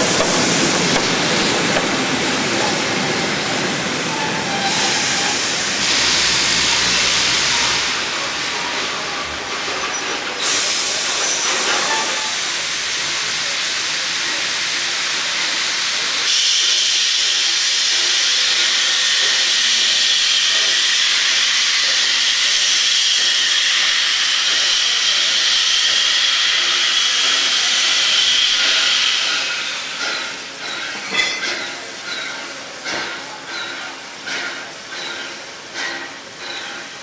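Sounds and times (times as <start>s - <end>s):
steam locomotive venting steam: 0.0s - 37.0s.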